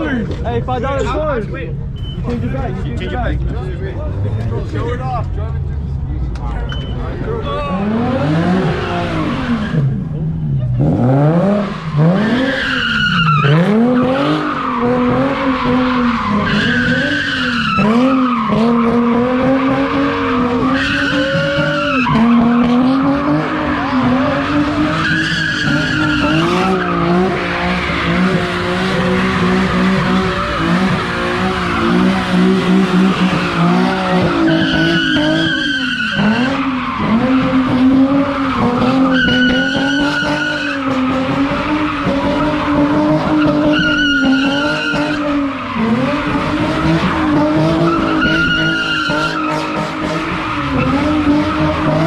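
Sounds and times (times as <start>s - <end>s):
tires skidding and squealing: 6.9s - 52.0s
car engine revving hard: 7.7s - 52.0s.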